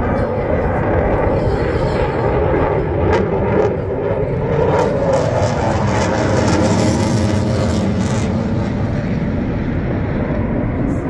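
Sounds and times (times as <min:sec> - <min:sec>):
aircraft engines overhead: 0:00.0 - 0:11.0.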